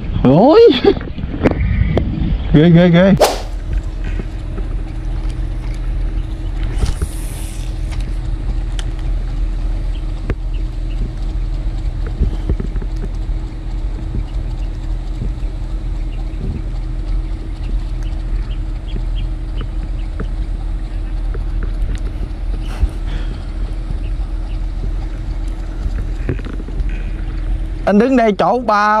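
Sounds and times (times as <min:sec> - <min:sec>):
wind on microphone: 0:00.0 - 0:28.0
motor humming: 0:03.3 - 0:29.0.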